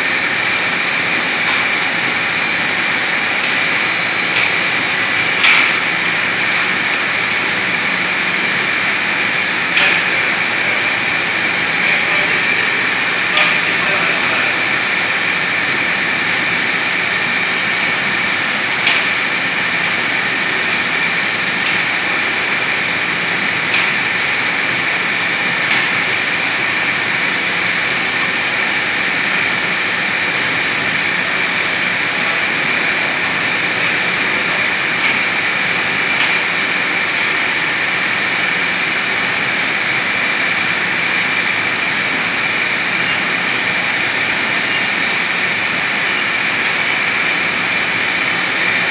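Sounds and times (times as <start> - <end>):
rush of air with high whine: 0.0 - 48.9.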